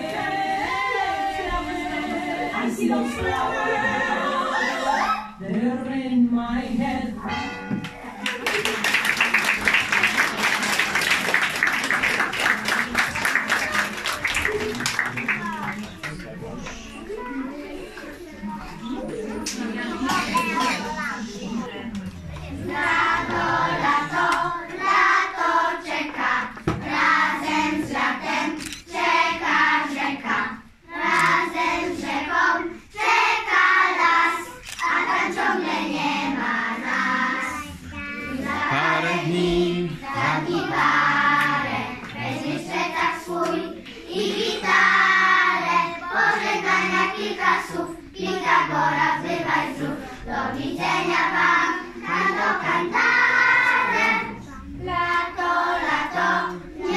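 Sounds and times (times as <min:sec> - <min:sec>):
children's choir singing: 0:00.0 - 0:15.8, 0:16.6 - 0:56.9.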